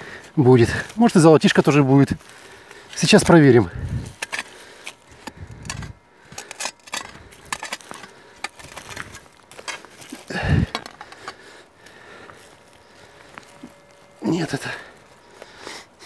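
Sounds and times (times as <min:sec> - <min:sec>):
hands and tools scraping soil: 0:00.0 - 0:16.0.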